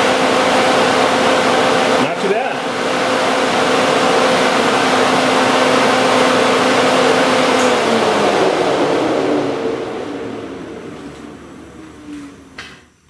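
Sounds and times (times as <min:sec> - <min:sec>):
electric cooling fan running: 0:00.0 - 0:13.0.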